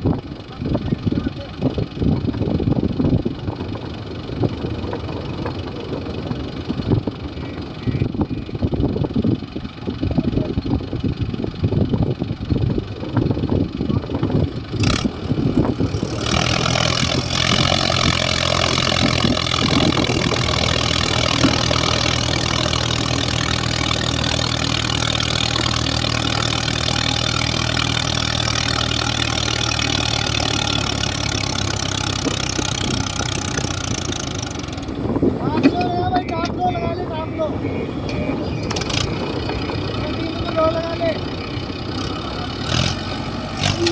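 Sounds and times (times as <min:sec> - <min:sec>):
diesel machinery engine running: 0:00.0 - 0:43.9.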